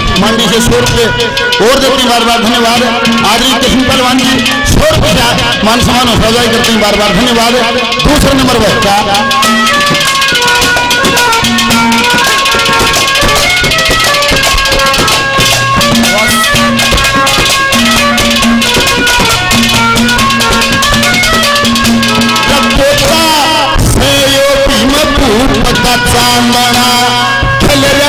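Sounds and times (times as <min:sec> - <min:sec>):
fast dense drumming: 0:00.0 - 0:28.0
melody instrument playing held notes: 0:00.0 - 0:28.0
rattling percussion: 0:00.0 - 0:28.0.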